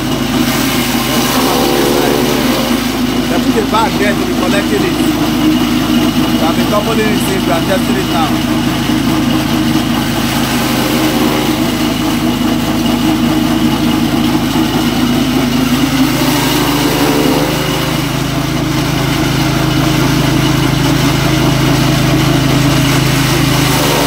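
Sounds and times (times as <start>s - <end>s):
chaff cutter motor humming: 0.0s - 24.0s.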